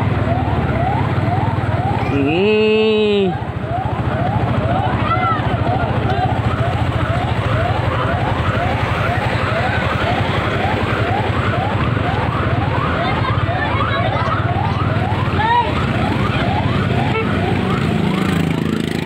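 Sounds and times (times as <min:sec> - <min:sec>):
siren yelping: 0:00.0 - 0:19.0.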